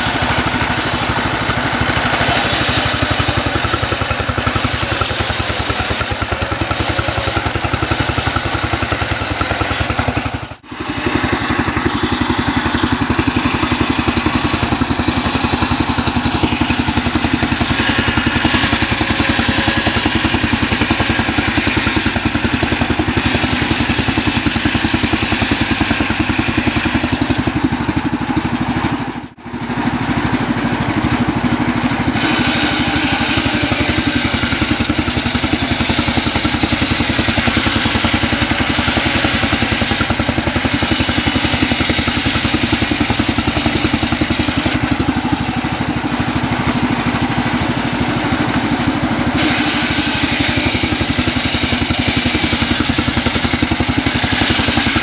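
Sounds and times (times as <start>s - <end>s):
circular saw ripping log: 1.7s - 27.6s, 32.1s - 45.0s, 49.4s - 55.0s.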